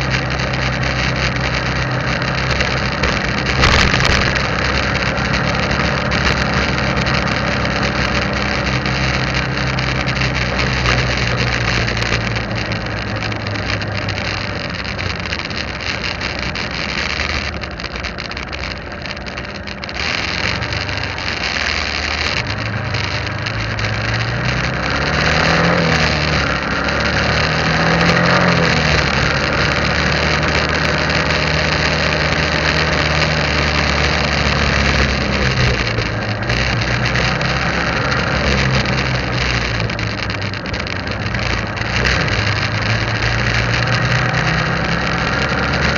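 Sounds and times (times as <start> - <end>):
motorbike engine running: 0.0 - 45.9
motorbikes passing: 0.0 - 45.9
wind and road noise: 0.0 - 45.9.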